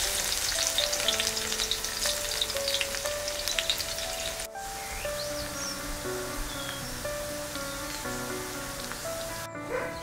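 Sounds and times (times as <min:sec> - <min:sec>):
food sizzling in hot oil: 0:00.0 - 0:09.5
background music: 0:00.0 - 0:10.0.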